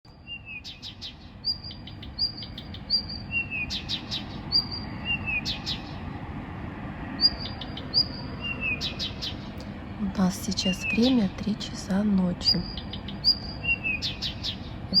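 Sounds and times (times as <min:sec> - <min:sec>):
songbird singing: 0:00.1 - 0:15.0.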